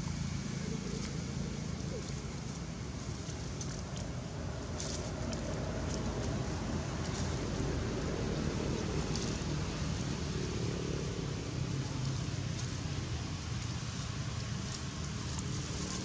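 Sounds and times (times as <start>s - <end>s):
low outdoor rumble: 0.0s - 16.0s
dry leaves rustling: 2.8s - 16.0s.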